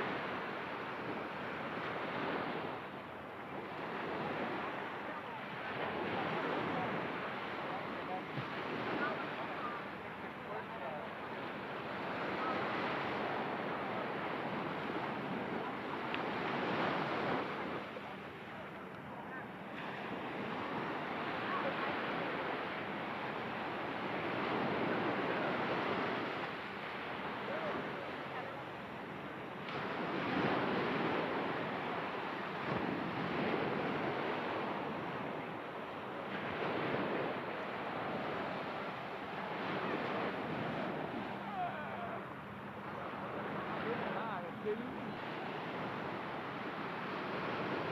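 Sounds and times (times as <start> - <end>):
ocean surf: 0.0 - 47.9.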